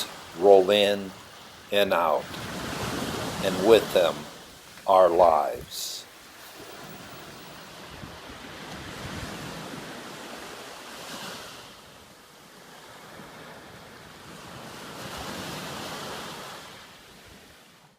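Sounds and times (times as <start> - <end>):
ocean surf breaking on beach: 0.0 - 17.9.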